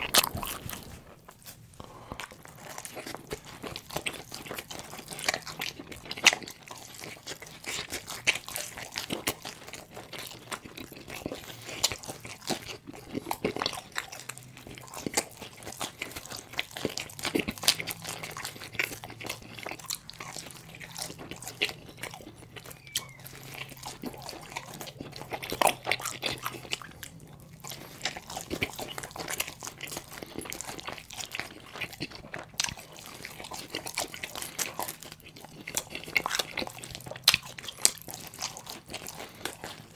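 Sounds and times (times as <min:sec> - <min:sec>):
person biting and chewing pizza: 0:00.0 - 0:39.9
pizza crust crunching: 0:00.0 - 0:39.9.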